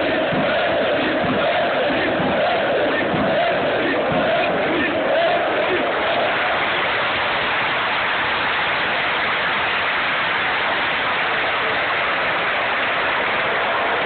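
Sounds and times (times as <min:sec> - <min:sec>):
large crowd cheering: 0:00.0 - 0:14.0.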